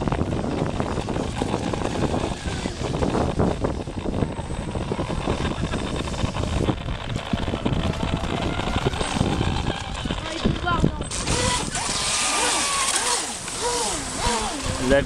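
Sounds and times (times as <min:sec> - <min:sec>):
model boat motor whine: 0:00.0 - 0:15.0
wind buffeting microphone: 0:00.0 - 0:15.0.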